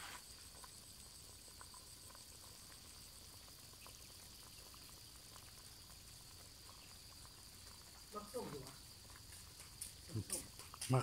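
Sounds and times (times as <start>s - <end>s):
soup bubbling in a pot: 0.0s - 11.0s.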